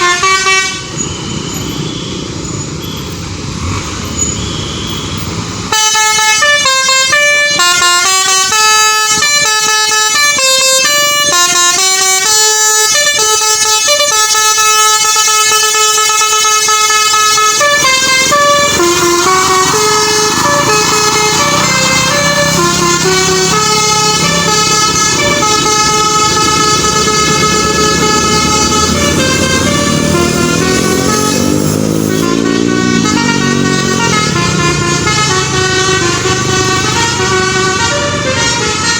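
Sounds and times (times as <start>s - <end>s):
bus air horn melody: 0.0s - 1.0s, 4.2s - 38.9s.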